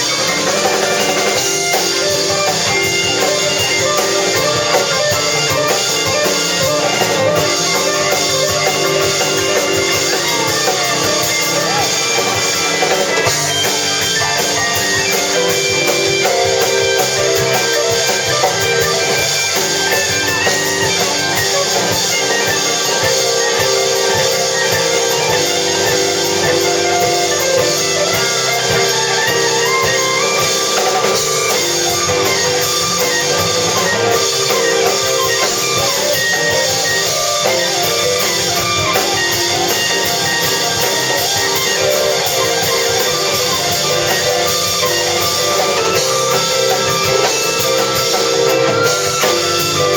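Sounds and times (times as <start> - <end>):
band music with guitars and drums: 0.0 - 49.9.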